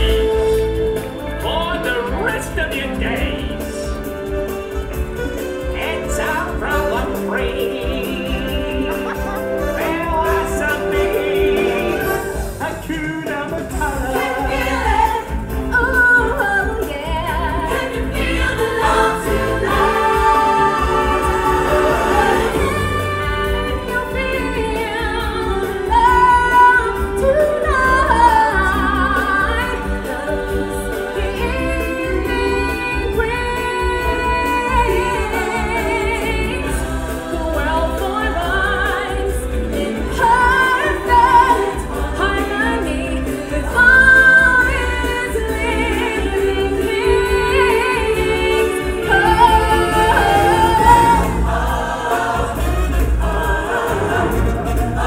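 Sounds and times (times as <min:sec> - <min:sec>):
choir singing: 0:00.0 - 0:12.9, 0:13.6 - 0:55.0
steady bass accompaniment: 0:00.0 - 0:55.0.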